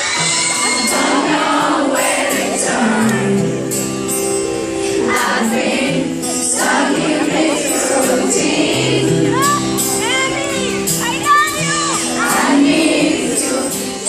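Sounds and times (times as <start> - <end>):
crowd singing along: 0.0 - 14.0
live pop band with singer: 0.0 - 14.0.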